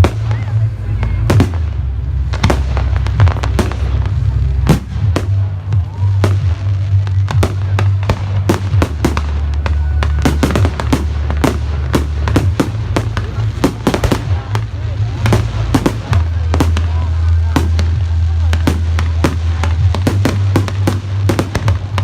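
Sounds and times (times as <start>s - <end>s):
fireworks bangs and cracks: 0.0s - 22.0s
steady low rumble: 0.0s - 22.0s.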